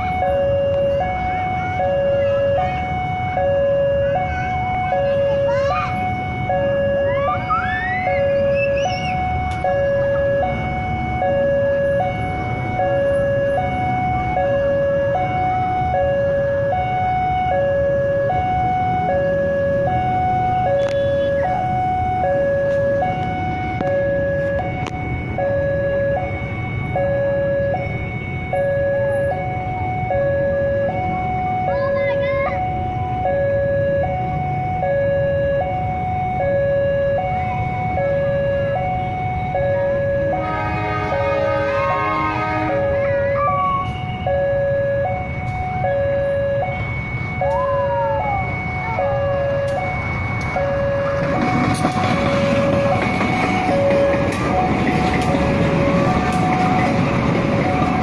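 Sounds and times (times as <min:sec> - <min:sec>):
train rumble: 0:00.0 - 0:58.0
two-tone electronic alarm: 0:00.0 - 0:58.0.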